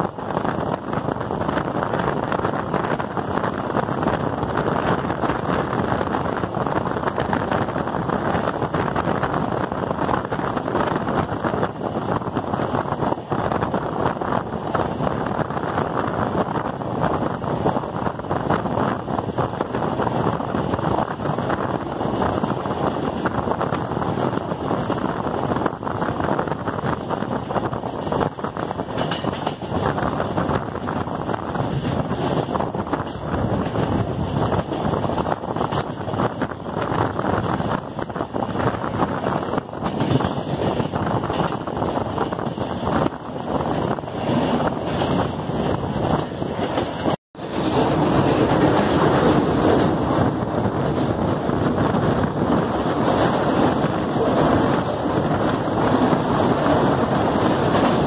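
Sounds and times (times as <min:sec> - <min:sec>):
train wheels on rails: 0:00.0 - 0:58.0
wind buffeting microphone: 0:00.0 - 0:58.0.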